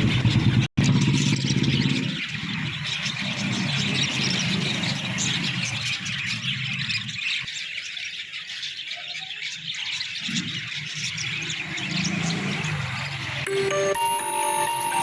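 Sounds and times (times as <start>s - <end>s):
cage birds chirping and chattering: 0.0s - 13.5s.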